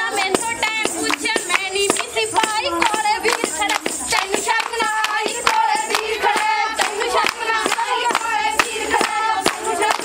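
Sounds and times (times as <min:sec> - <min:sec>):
women singing together: 0:00.0 - 0:10.0
hand clapping: 0:00.2 - 0:10.0.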